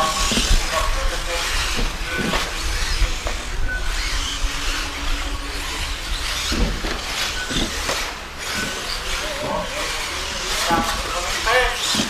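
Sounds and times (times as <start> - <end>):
radio-controlled cars racing: 0.0 - 12.0.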